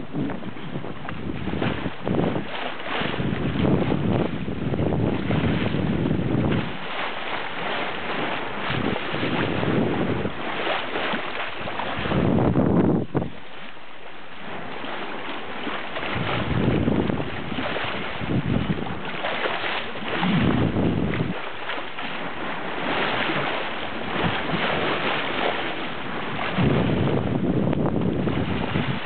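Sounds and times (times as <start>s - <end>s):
wind buffeting microphone: 0.0s - 13.7s, 14.4s - 29.0s
rush of wind and water: 0.0s - 29.0s.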